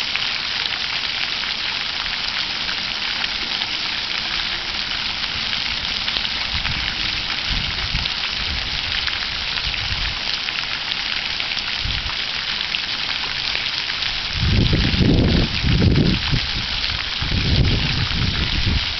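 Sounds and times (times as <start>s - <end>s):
fountain water splashing: 0.0s - 18.9s.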